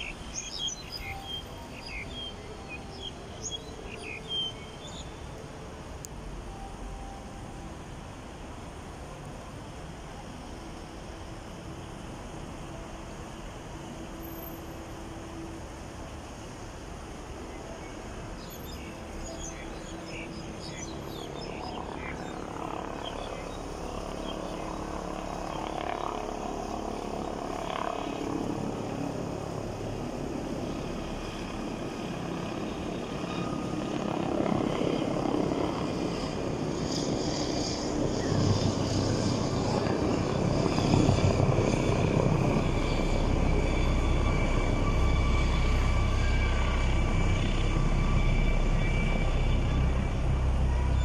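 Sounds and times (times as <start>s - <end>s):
helicopter rotor and engine: 0.0s - 51.0s.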